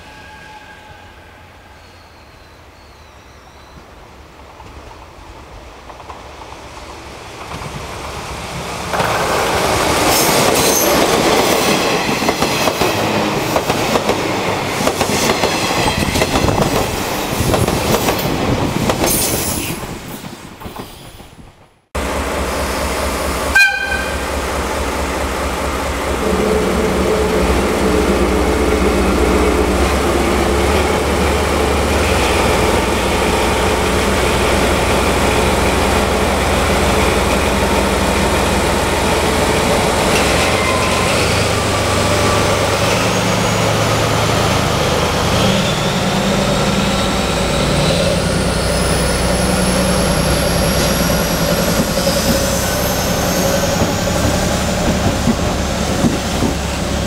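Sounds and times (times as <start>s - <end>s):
train engine rumbling: 0.0s - 57.0s.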